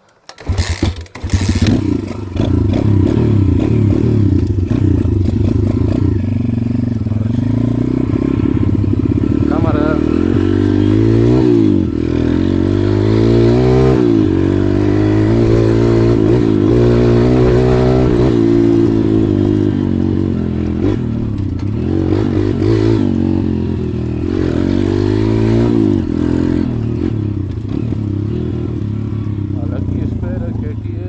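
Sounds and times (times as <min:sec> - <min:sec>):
pit bike engine revving: 0:00.3 - 0:31.0.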